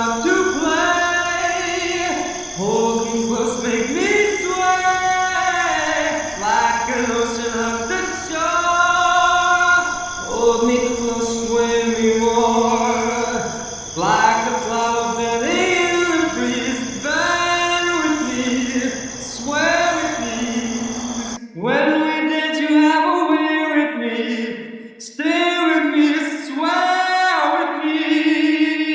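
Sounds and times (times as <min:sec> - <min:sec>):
low ambient hiss: 0:00.0 - 0:23.5
crickets chirring: 0:00.0 - 0:28.9
man singing: 0:00.0 - 0:28.9.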